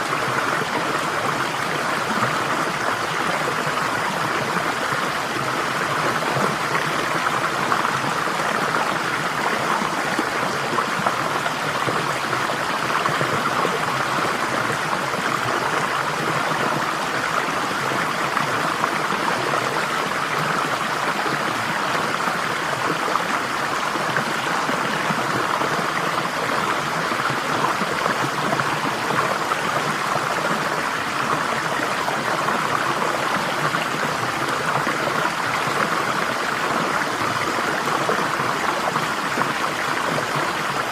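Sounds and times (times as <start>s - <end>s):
stream running over stones: 0.0s - 40.9s.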